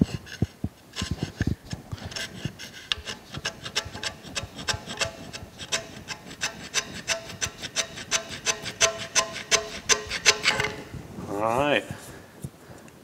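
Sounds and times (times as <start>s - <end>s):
hand scraper scraping: 0.0s - 11.0s.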